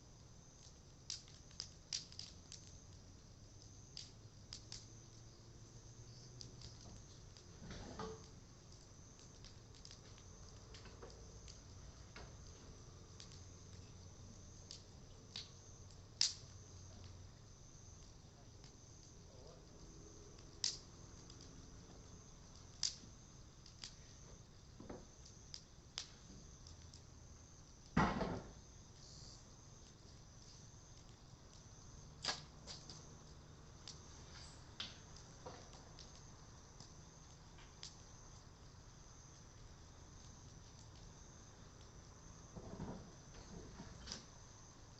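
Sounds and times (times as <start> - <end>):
insect chirring: 0.0 - 44.9
wood fire crackling and popping: 0.0 - 44.9.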